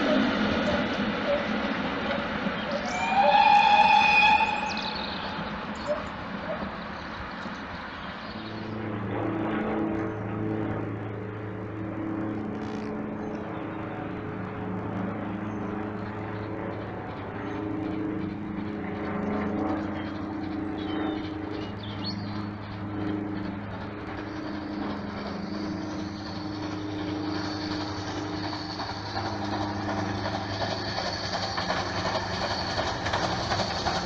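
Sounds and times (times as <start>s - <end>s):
droning engine hum: 0.0s - 34.0s.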